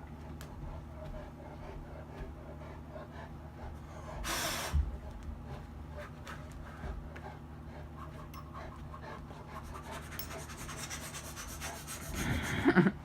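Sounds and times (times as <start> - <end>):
dog panting: 0.1 - 12.5.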